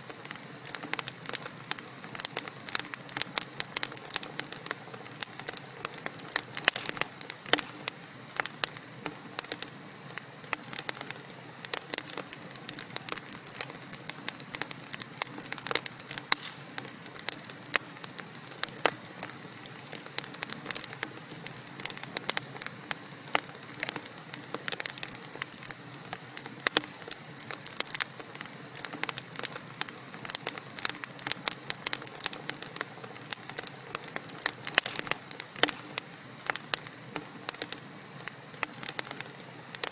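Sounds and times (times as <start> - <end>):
logs crackling and popping: 0.0 - 39.9
low hiss of flames: 0.0 - 39.9.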